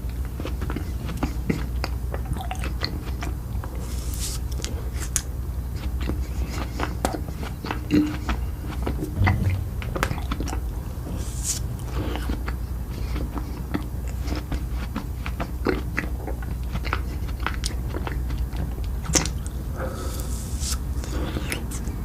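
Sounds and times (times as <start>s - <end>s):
chewing and crunching food: 0.0s - 9.3s, 11.6s - 22.0s.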